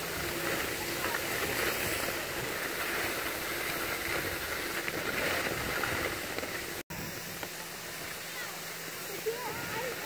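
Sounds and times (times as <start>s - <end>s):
skis sliding over snow: 0.0s - 10.0s.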